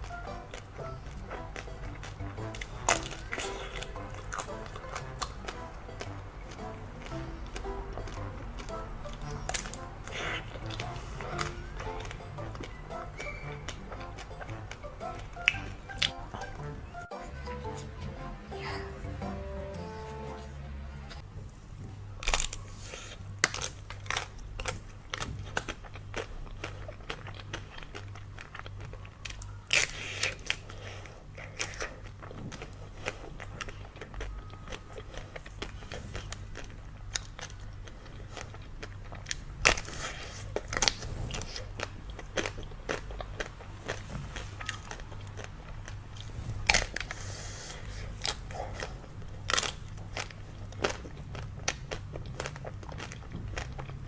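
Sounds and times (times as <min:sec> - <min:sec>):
crunchy bites and chewing: 0:00.0 - 0:16.5, 0:22.2 - 0:54.0.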